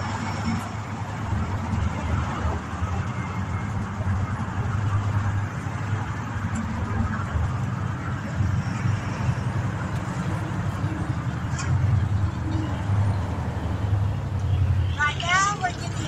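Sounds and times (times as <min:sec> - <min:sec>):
cars on busy street: 0:00.0 - 0:16.0.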